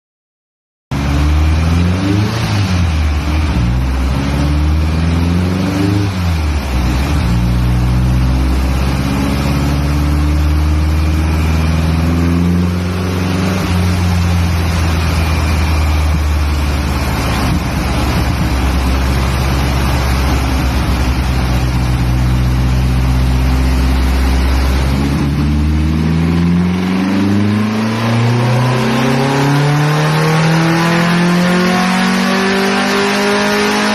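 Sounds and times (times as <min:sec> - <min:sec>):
car engine revving on a dyno: 0:00.9 - 0:33.9.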